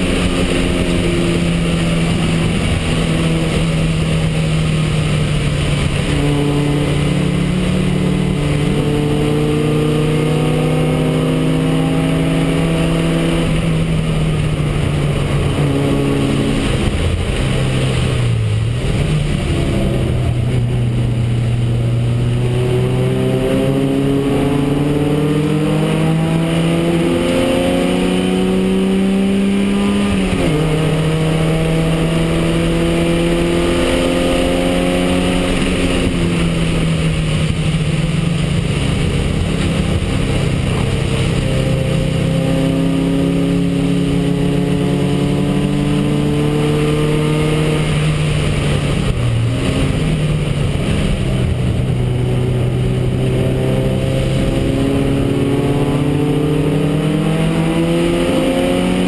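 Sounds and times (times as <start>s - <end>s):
race car engine pulling hard: 0.0s - 59.0s.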